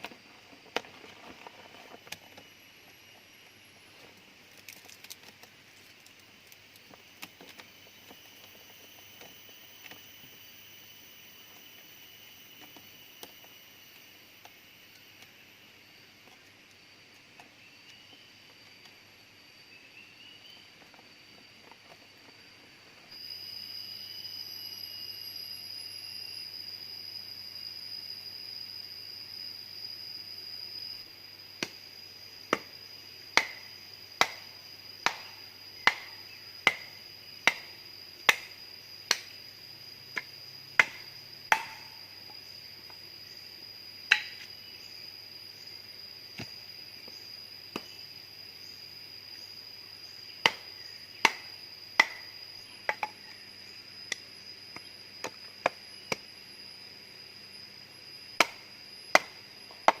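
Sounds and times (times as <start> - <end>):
high insect drone: 0.0 - 60.0.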